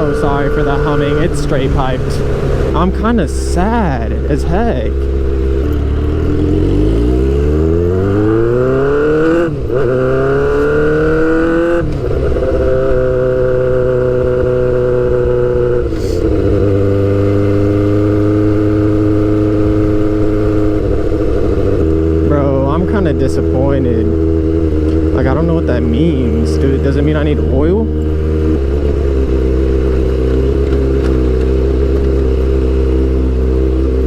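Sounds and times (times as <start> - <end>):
gear shift: 0.0 - 18.0, 20.0 - 34.0
motorcycle engine revving: 0.0 - 34.0.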